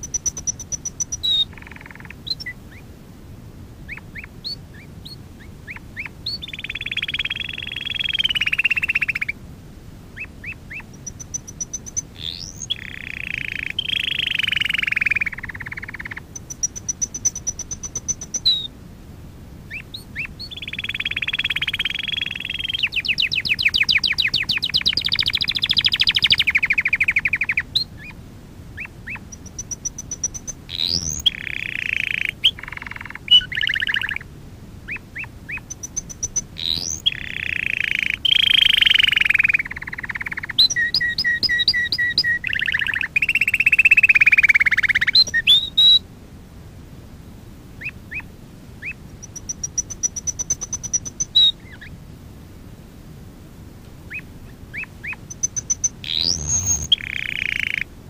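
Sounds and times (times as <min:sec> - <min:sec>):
canary singing trills: 0:00.0 - 0:02.9, 0:03.8 - 0:09.4, 0:10.2 - 0:18.7, 0:19.6 - 0:28.2, 0:28.8 - 0:46.0, 0:47.8 - 0:52.0, 0:54.1 - 0:57.9.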